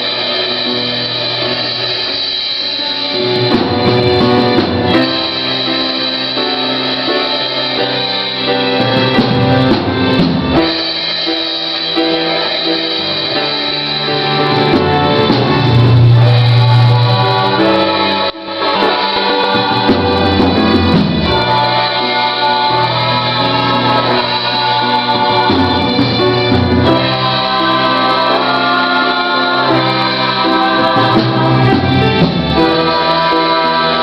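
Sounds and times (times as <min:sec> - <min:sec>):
instrumental accompaniment: 0:00.0 - 0:34.0
voices singing: 0:00.0 - 0:34.0.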